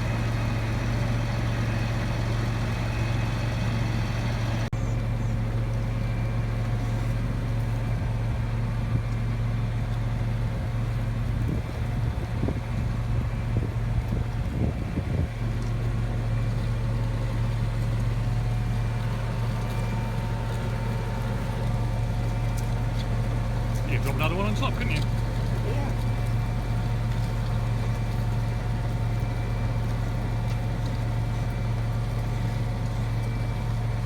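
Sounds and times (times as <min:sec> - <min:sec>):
heavy engine droning: 0:00.0 - 0:34.0.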